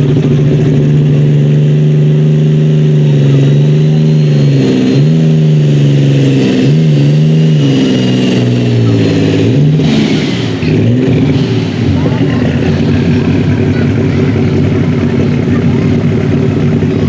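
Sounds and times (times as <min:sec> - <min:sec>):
diesel tractor engine revving: 0:00.0 - 0:17.0.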